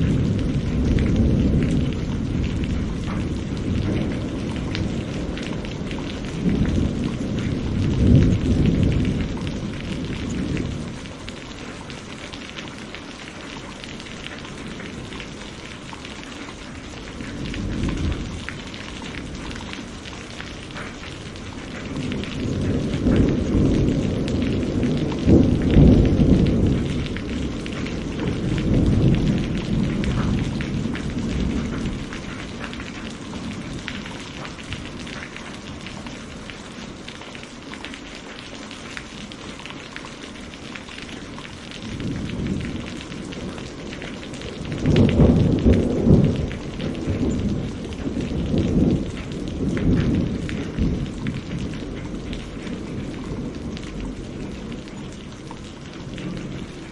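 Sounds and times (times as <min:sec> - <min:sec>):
rolling thunder: 0:00.0 - 0:11.8, 0:17.0 - 0:36.6, 0:41.7 - 0:56.9
steady rain: 0:00.0 - 0:56.9.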